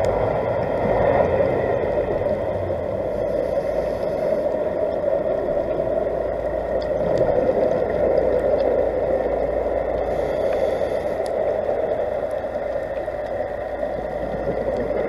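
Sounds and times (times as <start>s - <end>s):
underwater hiss: 0.0s - 15.0s.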